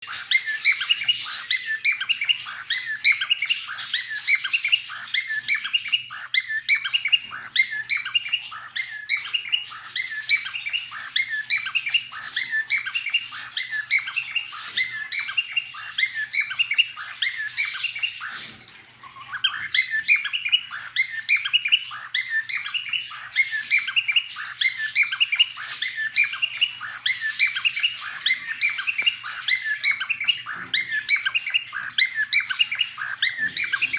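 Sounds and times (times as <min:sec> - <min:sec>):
cockatiel chirping and whistling: 0:00.0 - 0:33.9.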